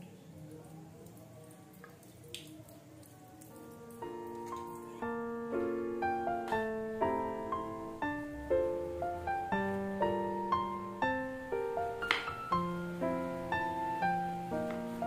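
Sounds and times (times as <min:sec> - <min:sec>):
soft piano music: 0:02.5 - 0:15.0.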